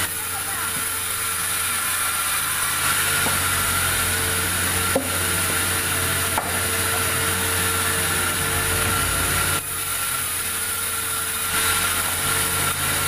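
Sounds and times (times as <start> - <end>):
saw cutting wood: 0.0 - 13.0.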